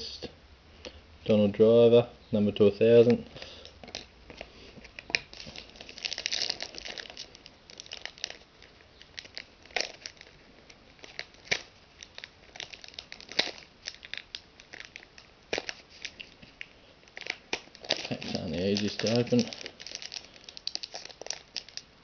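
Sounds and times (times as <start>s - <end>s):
foil wrapper crinkling and tearing: 3.3s - 22.0s.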